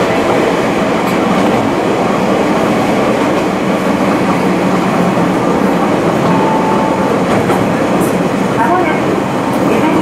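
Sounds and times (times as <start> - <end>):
diesel railcar running on track: 0.0 - 10.0.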